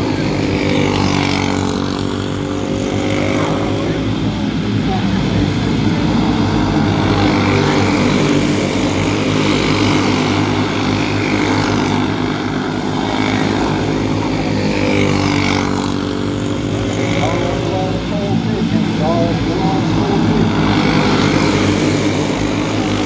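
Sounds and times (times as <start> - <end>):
racing kart engines at high revs: 0.0 - 23.0.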